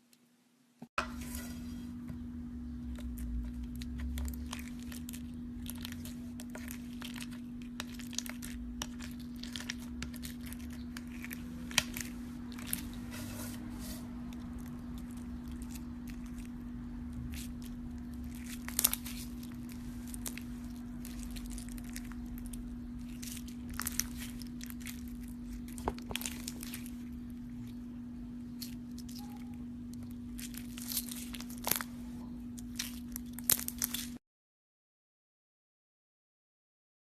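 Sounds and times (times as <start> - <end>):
steady low hum: 0.9 - 34.2
sticky slime crackles: 2.8 - 34.2.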